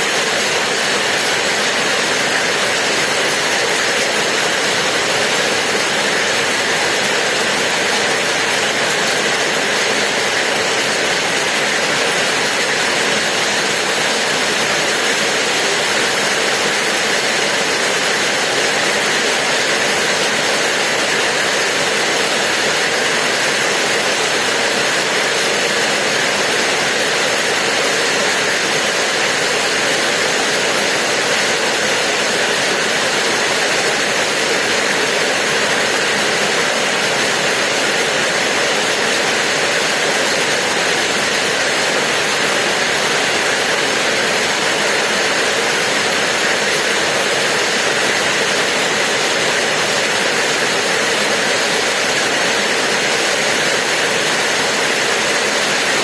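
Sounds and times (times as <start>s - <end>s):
steady rain falling: 0.1s - 56.0s.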